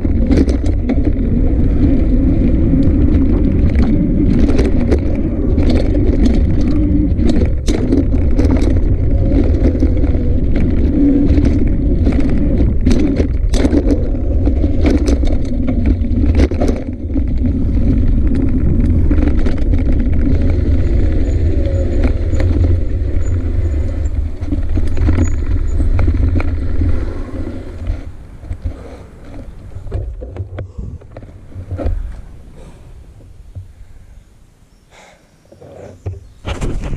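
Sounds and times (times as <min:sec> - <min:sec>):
bike rattling over bumps: 0:00.0 - 0:33.7, 0:35.6 - 0:36.9
wind and ride vibration rumble: 0:00.0 - 0:36.9.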